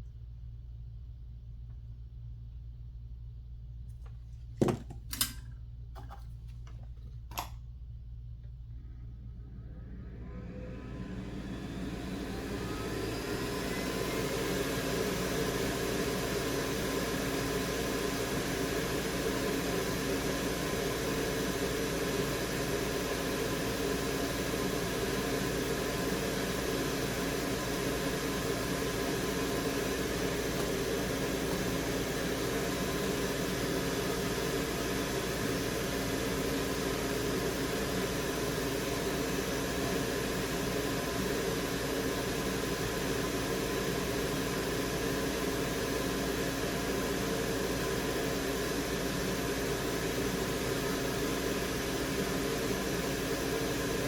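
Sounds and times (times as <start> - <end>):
fume extractor fan: 0.0 - 54.0
hot air rework station: 4.6 - 7.6, 9.2 - 54.0.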